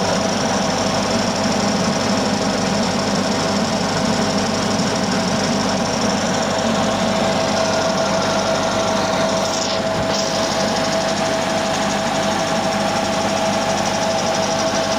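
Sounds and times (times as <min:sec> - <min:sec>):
refrigerator compressor rattle: 0:00.0 - 0:14.9.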